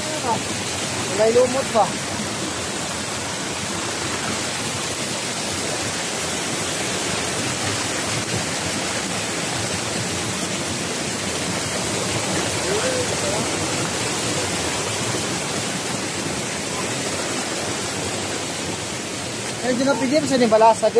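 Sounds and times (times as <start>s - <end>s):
stream rushing over boulders: 0.0s - 20.9s.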